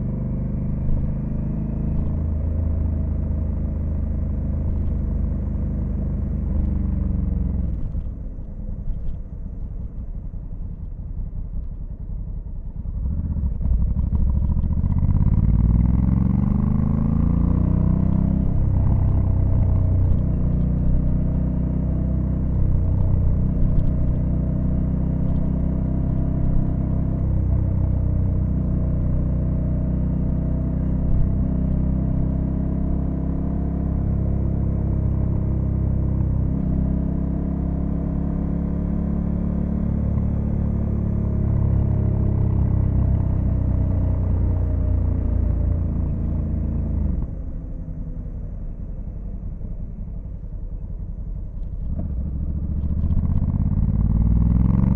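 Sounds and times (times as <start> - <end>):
motorcycle engine accelerating: 0.0 - 9.9, 10.5 - 54.9.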